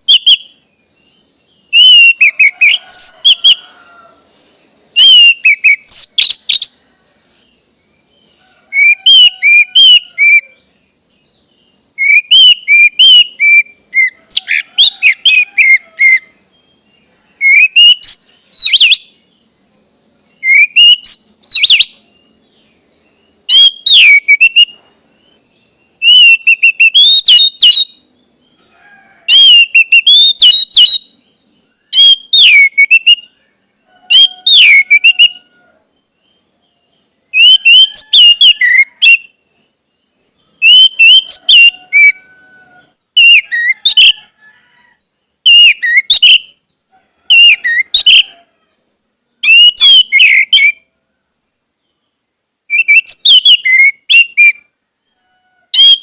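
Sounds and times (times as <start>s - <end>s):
thrush singing whistled notes: 0.0s - 28.7s, 29.3s - 44.4s, 45.3s - 46.7s, 47.3s - 48.4s, 49.4s - 50.9s, 51.6s - 54.8s, 55.7s - 56.0s
steady high hiss: 0.0s - 56.0s.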